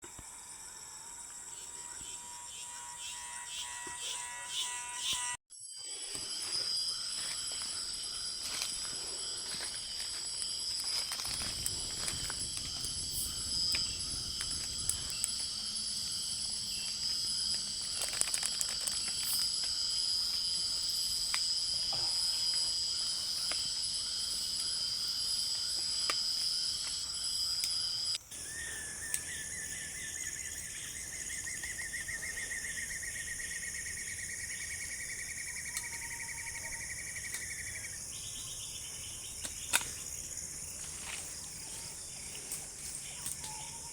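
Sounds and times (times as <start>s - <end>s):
insect chorus buzzing: 0.0s - 43.9s
pulsing insect trill: 0.3s - 43.9s.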